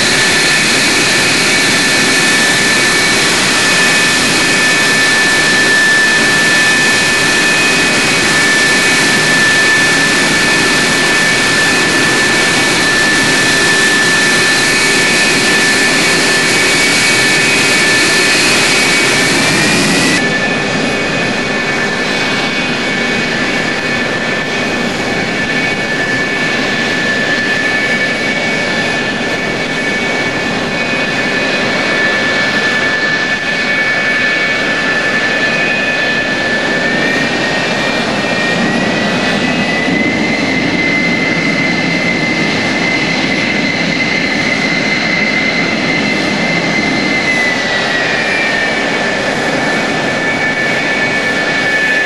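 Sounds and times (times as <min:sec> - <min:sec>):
jet engine whine: 0:00.0 - 0:52.0.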